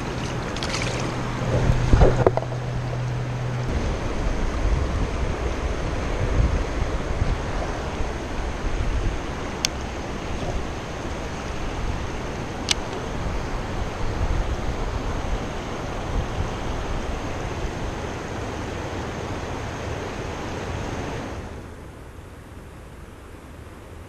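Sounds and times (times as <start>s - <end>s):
wind rumbling on microphone: 0.0s - 21.8s
river flowing over stones: 0.0s - 21.9s.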